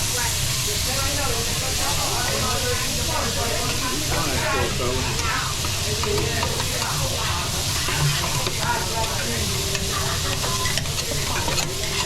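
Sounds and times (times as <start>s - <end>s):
rice sizzling on a hot griddle: 0.0s - 12.0s.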